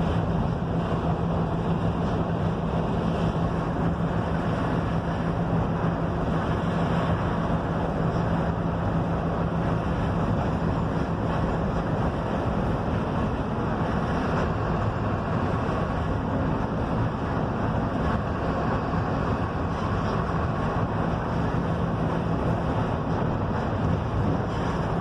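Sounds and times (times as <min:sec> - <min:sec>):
bus diesel engine running: 0:00.0 - 0:25.0
road and wind noise: 0:00.0 - 0:25.0.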